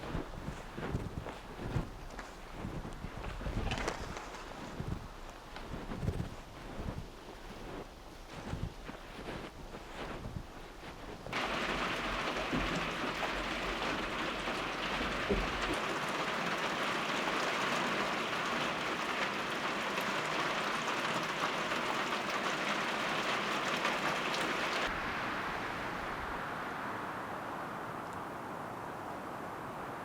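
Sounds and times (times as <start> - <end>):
dense patter of precipitation: 0.0 - 28.0.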